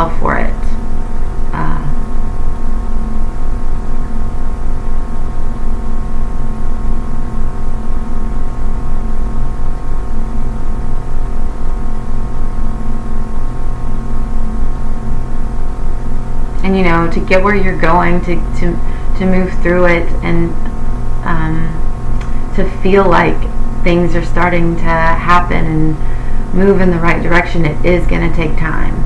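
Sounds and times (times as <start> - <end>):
ambient droning music: 0.0 - 29.0.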